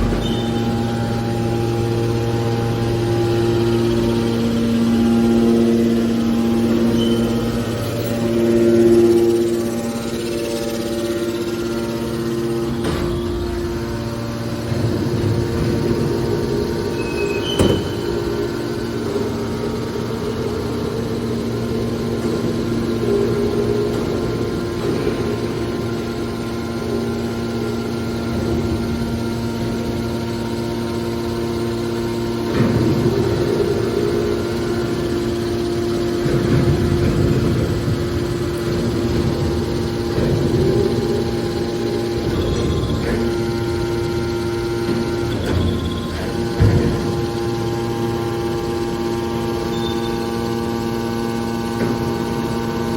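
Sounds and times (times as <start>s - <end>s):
baler machine hum and whine: 0.0s - 52.9s
heavy rumbling machine noise: 0.0s - 52.9s.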